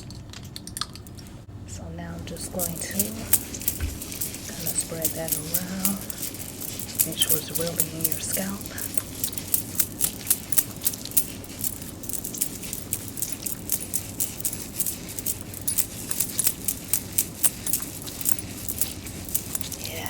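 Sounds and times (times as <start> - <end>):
fingernails scratching hair: 2.3 - 20.0.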